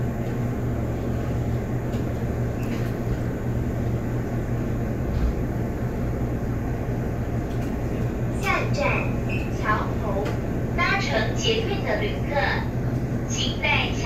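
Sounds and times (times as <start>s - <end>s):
train interior hum: 0.0s - 14.0s
train running noise: 0.0s - 14.0s.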